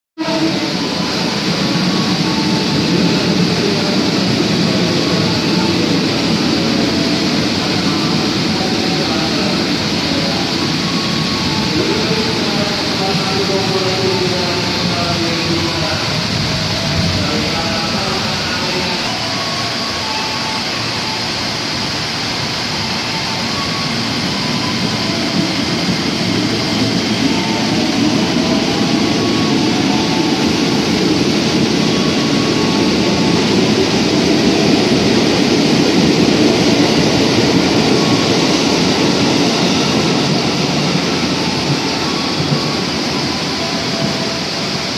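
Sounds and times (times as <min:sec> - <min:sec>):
train wheels rumbling on track: 0:00.2 - 0:44.9.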